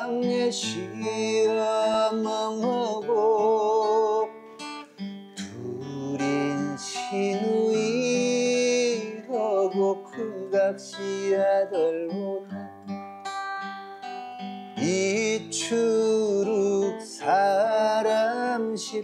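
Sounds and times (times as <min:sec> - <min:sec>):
man singing: 0:00.0 - 0:04.4, 0:05.4 - 0:12.7, 0:14.8 - 0:19.0
strummed acoustic guitar: 0:00.0 - 0:19.0.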